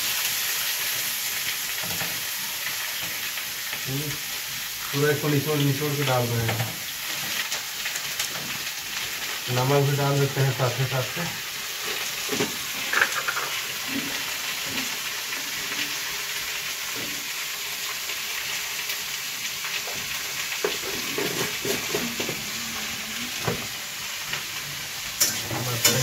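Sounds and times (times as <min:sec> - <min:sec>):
mushrooms sizzling in pan: 0:00.0 - 0:26.0.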